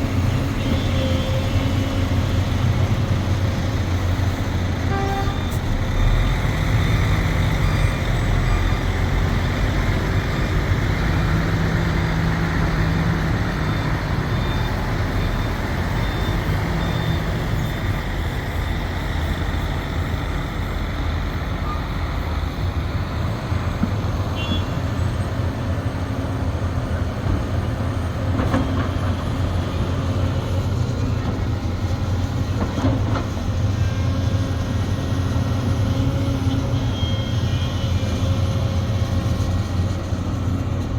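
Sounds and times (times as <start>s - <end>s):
excavator engine and hydraulics drone: 0.0s - 40.9s.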